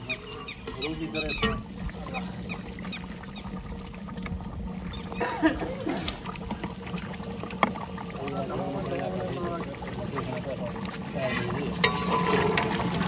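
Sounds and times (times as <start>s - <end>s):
pot crackling and popping over fire: 0.0s - 13.0s.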